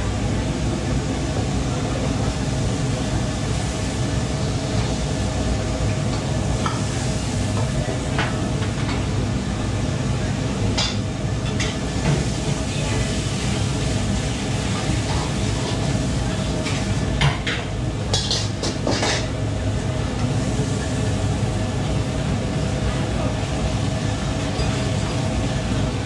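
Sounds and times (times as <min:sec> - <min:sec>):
food sizzling in wok: 0:00.0 - 0:22.8.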